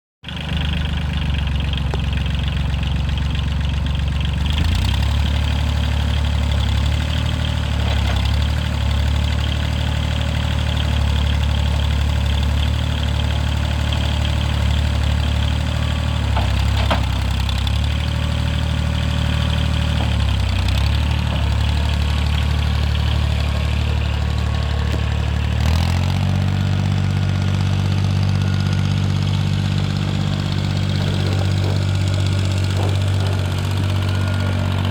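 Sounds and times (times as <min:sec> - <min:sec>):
tractor diesel engine idling: 0:00.2 - 0:34.9.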